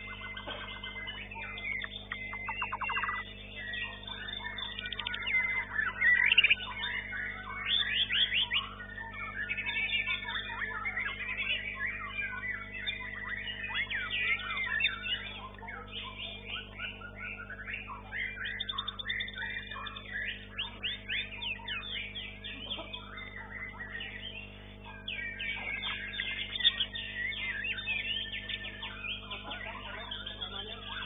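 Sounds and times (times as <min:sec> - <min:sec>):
low electrical hum: 0:00.0 - 0:31.0
songbirds singing: 0:00.0 - 0:31.0.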